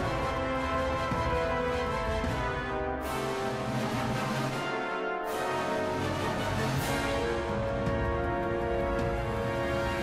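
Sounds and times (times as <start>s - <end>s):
music of sustained chords: 0.0s - 10.0s.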